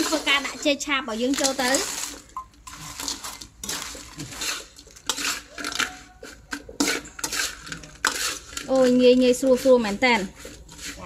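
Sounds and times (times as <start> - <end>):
metal spatula scraping a wok: 0.0 - 11.0.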